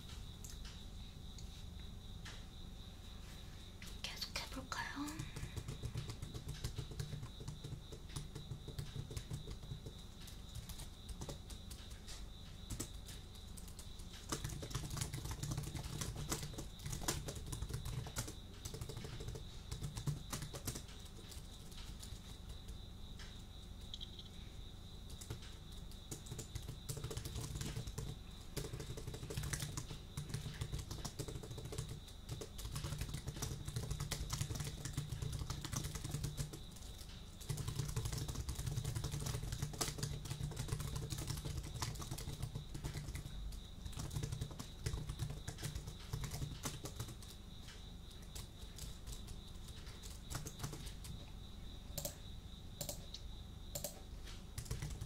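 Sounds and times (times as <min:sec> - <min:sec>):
computer keyboard typing: 0:03.8 - 0:24.3, 0:25.0 - 0:51.3, 0:51.9 - 0:52.2, 0:52.8 - 0:54.0, 0:54.6 - 0:55.0.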